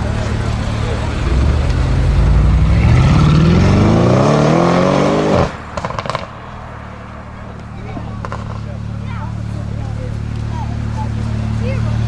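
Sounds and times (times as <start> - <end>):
engine idle hum: 0.0 - 4.2, 5.5 - 12.0
car engine accelerating: 0.0 - 12.0
exhaust pops and flutters: 0.0 - 12.0.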